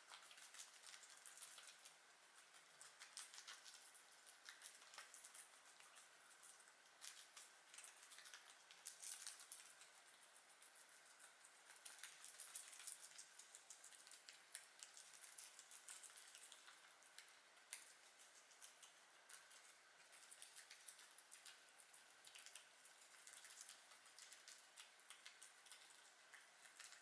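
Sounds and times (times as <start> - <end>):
guinea pigs crunching food: 0.0 - 27.0.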